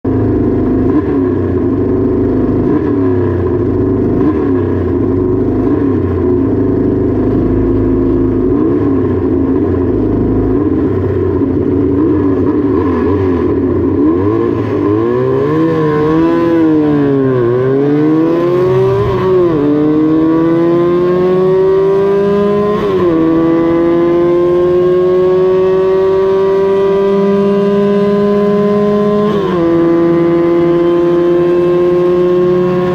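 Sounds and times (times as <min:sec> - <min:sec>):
motorcycle accelerating through gears: 0:00.1 - 0:32.9.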